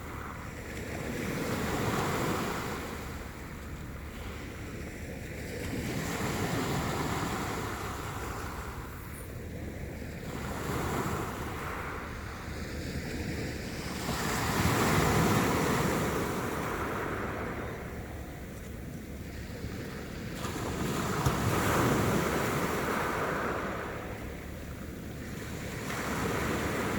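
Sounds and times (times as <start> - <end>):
sea waves washing on shore: 0.0 - 26.9.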